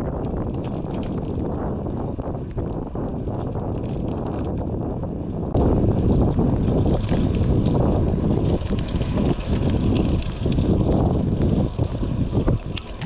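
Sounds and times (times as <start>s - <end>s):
bicycle tyre noise: 0.0s - 13.0s
small clicks from rough road: 0.0s - 13.0s
wind buffeting microphone: 0.0s - 13.0s.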